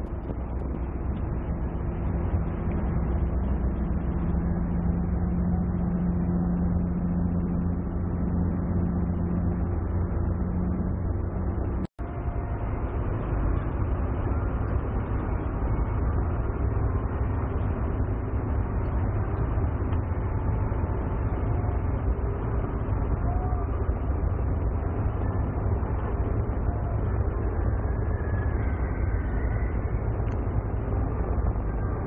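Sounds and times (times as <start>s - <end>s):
boat engines humming: 0.0s - 32.0s.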